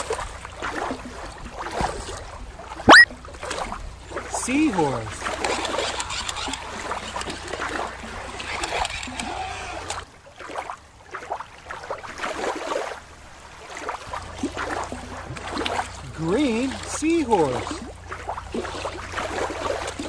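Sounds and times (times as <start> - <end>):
water lapping against rock: 0.0 - 20.0.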